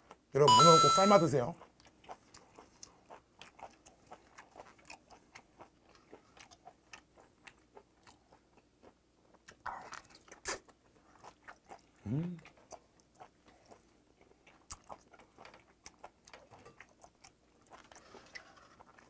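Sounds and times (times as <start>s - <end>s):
wet chewing and biting: 1.6s - 19.0s.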